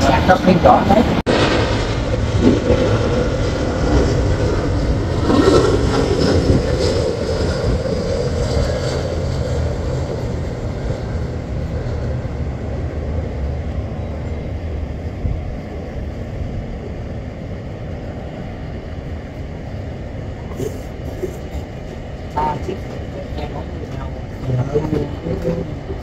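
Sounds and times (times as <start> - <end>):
jet airliner engines rumbling: 0.0 - 26.0.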